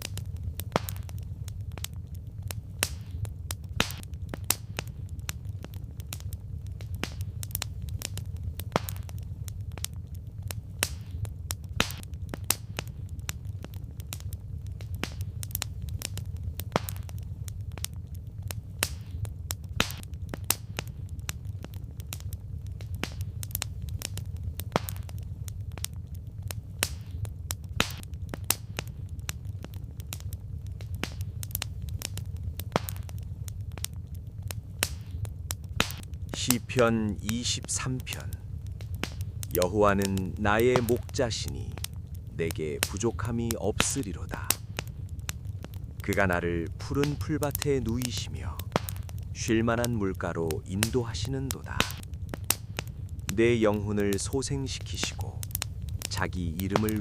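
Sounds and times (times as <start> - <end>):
campfire crackling and popping: 0.0 - 57.0
low rumble: 0.0 - 57.0.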